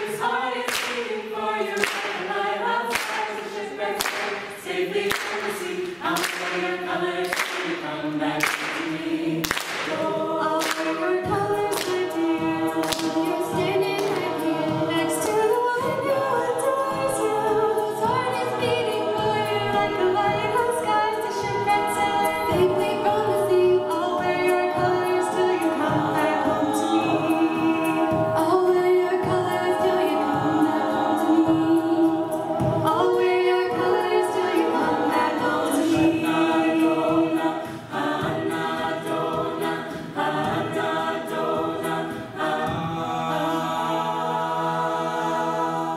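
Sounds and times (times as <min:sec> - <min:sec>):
a cappella group singing: 0:00.0 - 0:45.9.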